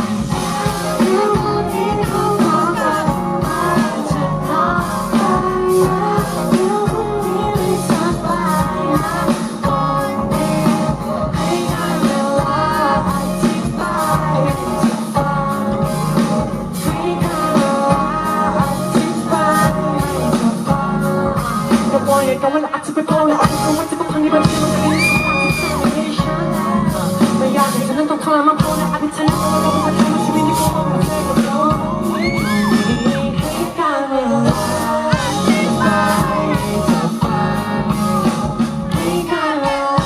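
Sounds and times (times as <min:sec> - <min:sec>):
steady drum beat: 0:00.0 - 0:22.4, 0:23.4 - 0:28.0, 0:28.6 - 0:33.8, 0:34.4 - 0:40.0
live band playing pop-rock: 0:00.0 - 0:40.0.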